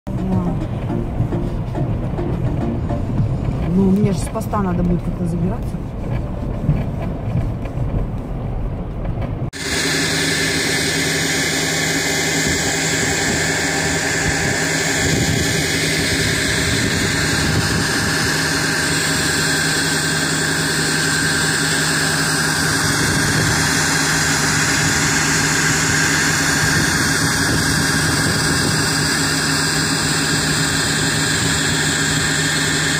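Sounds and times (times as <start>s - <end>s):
rough outdoor noise: 0.1s - 32.9s
truck engine running: 0.1s - 32.9s.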